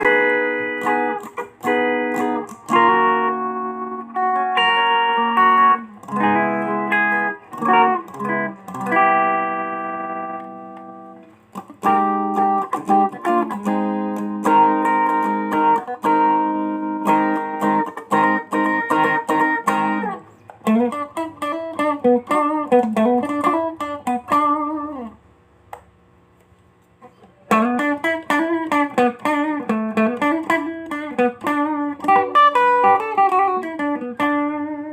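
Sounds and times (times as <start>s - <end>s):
electric guitar chords and notes: 0.0s - 26.0s, 27.0s - 34.9s.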